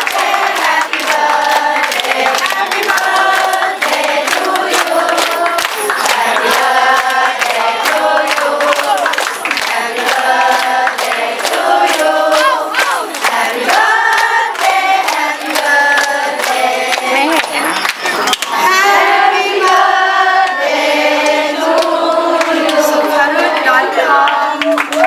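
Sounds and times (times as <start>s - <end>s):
group singing: 0.0s - 25.0s
people clapping on a beat: 0.0s - 25.0s.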